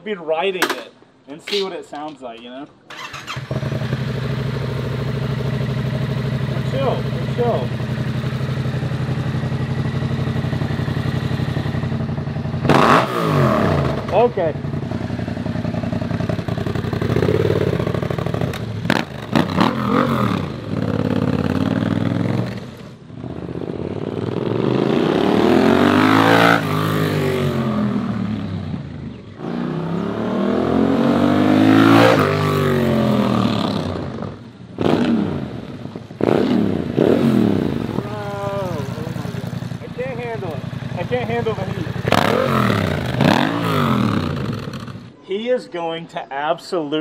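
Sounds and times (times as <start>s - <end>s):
motorcycle accelerating past: 2.9s - 45.1s.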